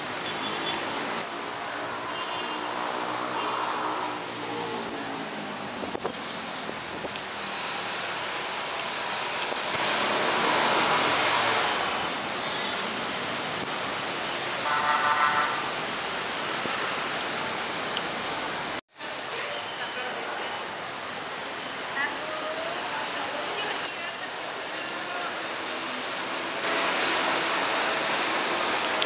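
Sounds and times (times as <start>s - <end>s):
street traffic rushing: 0.0s - 29.0s.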